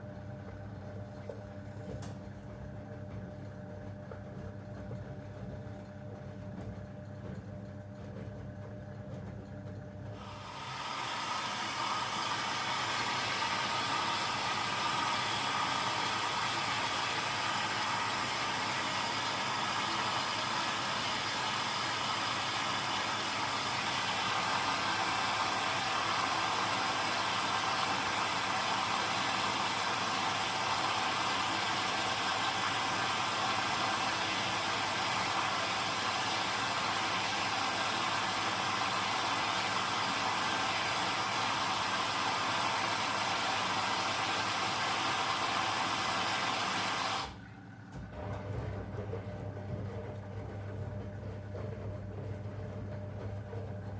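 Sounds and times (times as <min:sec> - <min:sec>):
washing machine whirring: 0:00.0 - 0:53.9.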